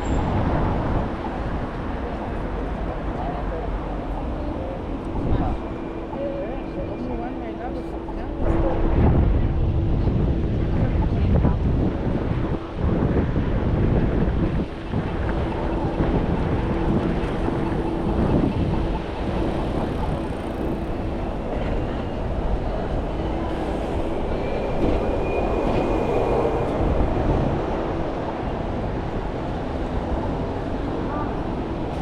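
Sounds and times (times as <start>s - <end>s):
street traffic noise: 0.0s - 32.0s.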